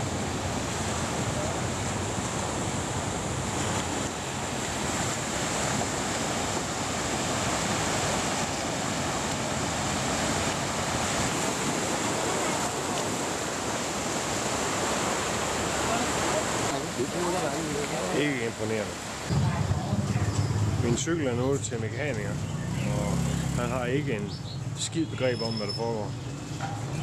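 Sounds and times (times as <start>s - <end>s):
waves washing up a beach: 0.0s - 22.3s.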